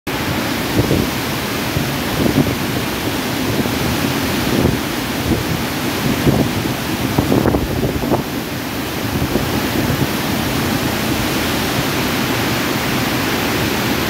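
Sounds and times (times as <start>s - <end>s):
river rushing over boulders: 0.1s - 14.0s.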